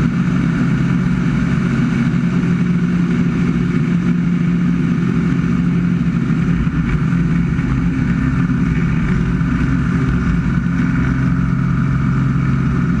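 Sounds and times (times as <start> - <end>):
plane engine and propeller droning: 0.0 - 13.0.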